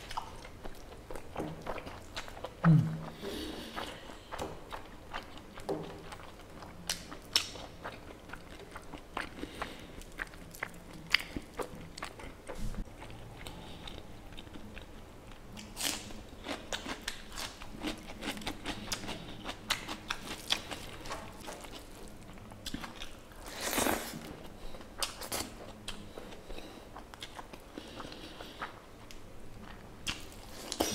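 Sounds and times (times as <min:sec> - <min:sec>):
person chewing food: 0:00.0 - 0:30.9.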